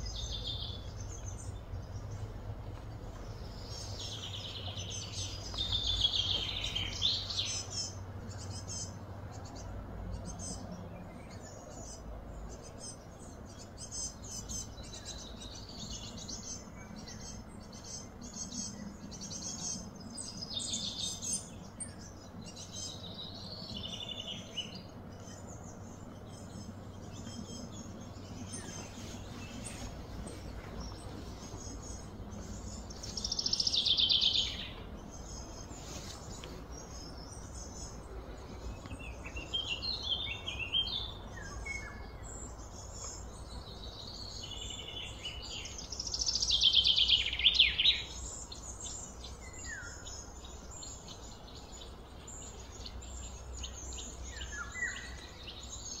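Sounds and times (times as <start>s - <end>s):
rapid falling bird song: 0.0s - 56.0s
steady low background hum: 0.0s - 56.0s
wild birds chirping and singing: 0.0s - 56.0s.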